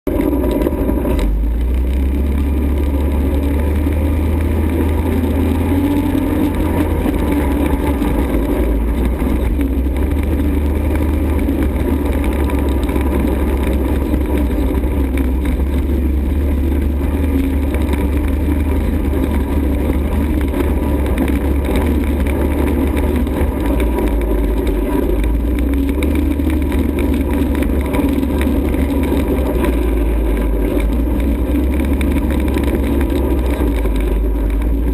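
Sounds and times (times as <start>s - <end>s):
atv engine rumbling: 0.0s - 34.9s.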